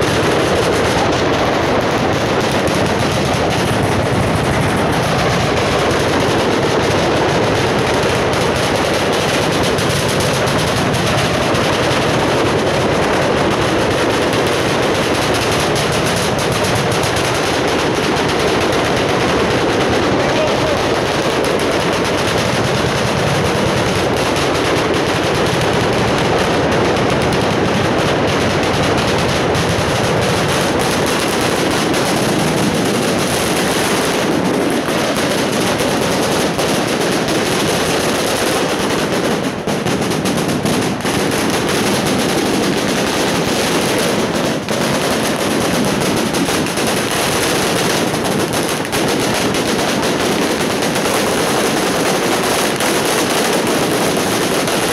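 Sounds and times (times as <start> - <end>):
firecrackers crackling rapidly: 0.0 - 54.9.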